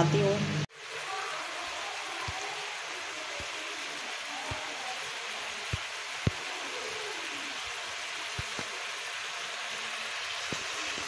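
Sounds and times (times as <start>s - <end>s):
butter sizzling in a pan: 0.7s - 11.0s.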